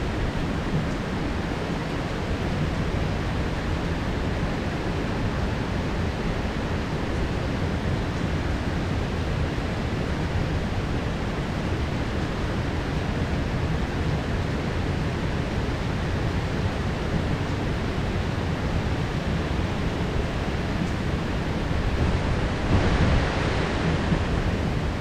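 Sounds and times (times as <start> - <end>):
heavy rain downpour: 0.0 - 25.0.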